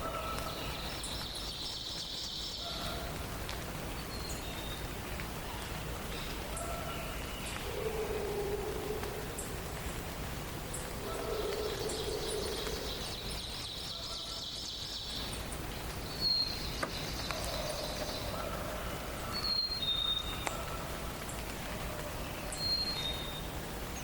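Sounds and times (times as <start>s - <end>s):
background hiss: 0.0s - 24.0s
songbirds singing: 0.0s - 24.0s.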